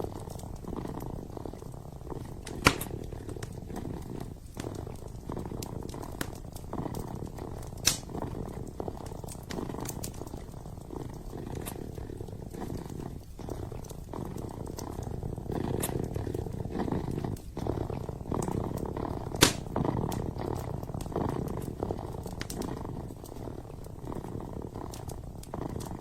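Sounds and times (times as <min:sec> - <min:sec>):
kitten purring: 0:00.0 - 0:26.0
wood fire crackling and popping: 0:00.0 - 0:26.0.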